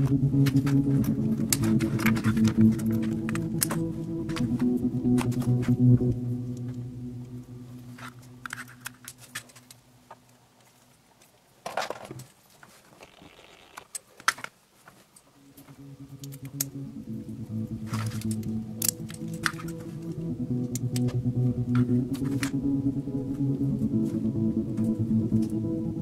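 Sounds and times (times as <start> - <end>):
quiet background music: 0.0 - 11.6, 14.4 - 26.0.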